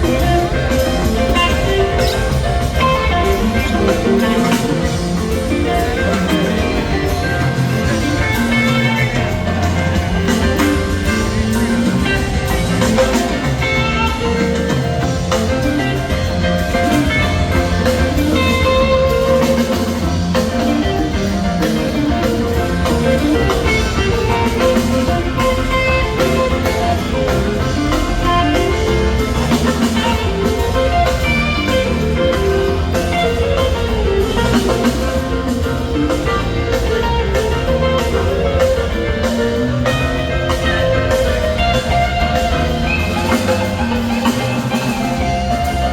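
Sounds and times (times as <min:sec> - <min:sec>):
electric guitar lead lines: 0:00.0 - 0:45.9
rock band playing: 0:00.0 - 0:45.9.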